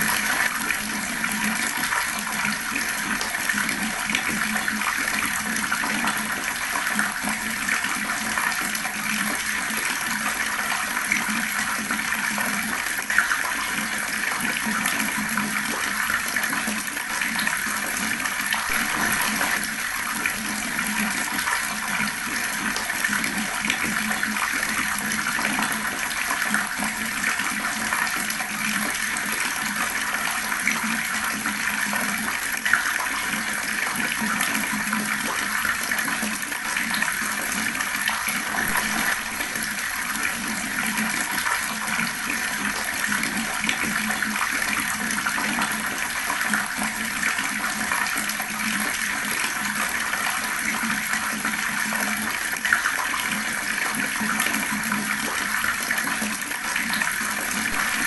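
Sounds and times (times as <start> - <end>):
fast-flowing water splashing: 0.0 - 58.0.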